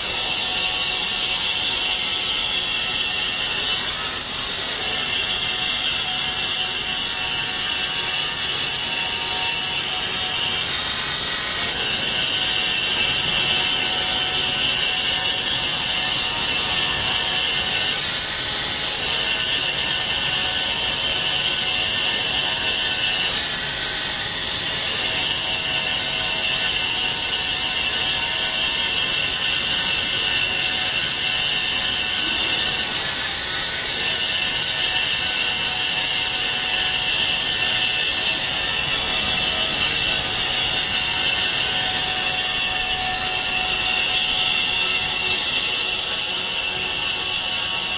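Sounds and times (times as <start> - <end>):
blade hissing through foam: 0.0 - 21.6, 22.2 - 25.6, 30.1 - 47.9
motor drone: 0.0 - 47.9.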